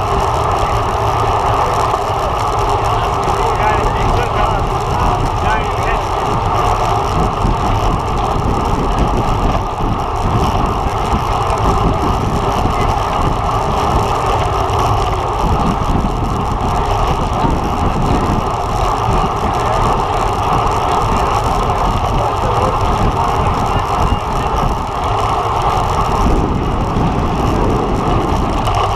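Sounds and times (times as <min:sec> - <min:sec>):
wind and road noise: 0:00.0 - 0:28.9.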